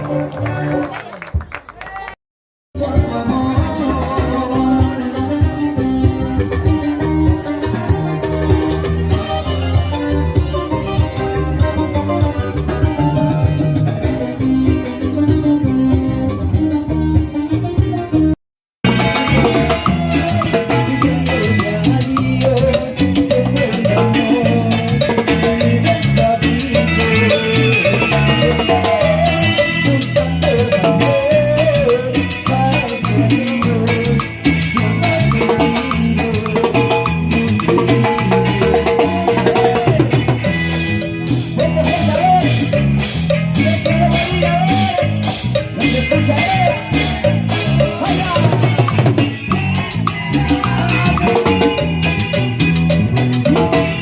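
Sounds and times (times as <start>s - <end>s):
bass line: 2.8s - 54.0s
latin dance band playing: 2.8s - 54.0s.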